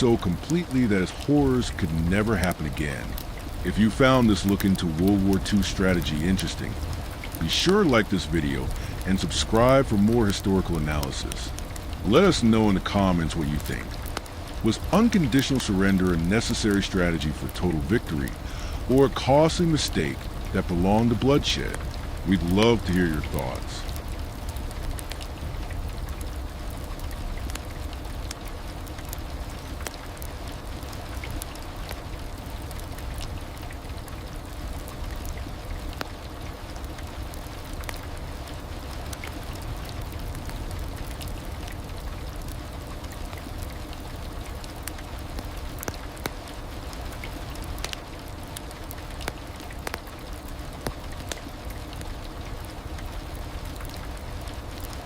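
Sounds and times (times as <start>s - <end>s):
heavy rain: 0.0s - 55.0s
raindrops ticking: 0.0s - 55.0s.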